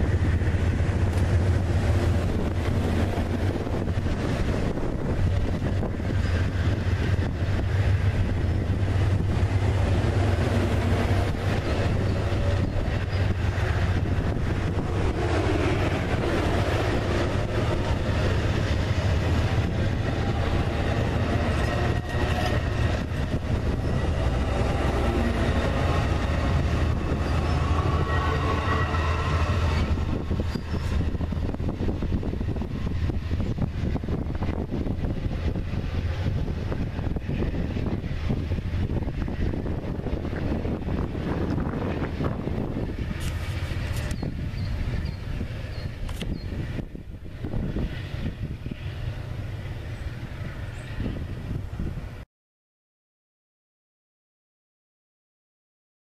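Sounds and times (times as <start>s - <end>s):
train cars rolling past: 0.0s - 52.2s.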